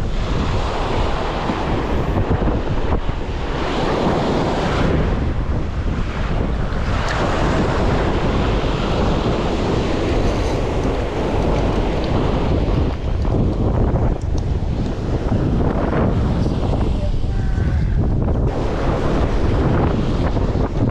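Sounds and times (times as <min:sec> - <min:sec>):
ocean surf breaking: 0:00.0 - 0:20.9
wind buffeting microphone: 0:00.0 - 0:20.9.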